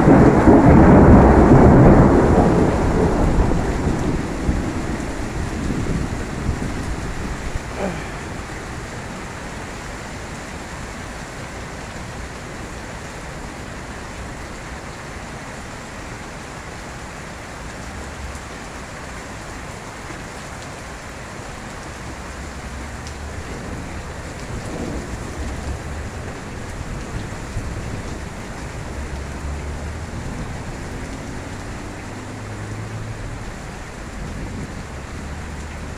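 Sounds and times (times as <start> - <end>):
heavy rain and hail: 0.0 - 35.9.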